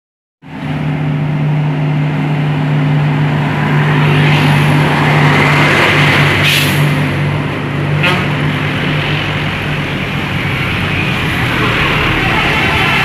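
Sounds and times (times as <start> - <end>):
bus diesel engine running: 0.5 - 13.0.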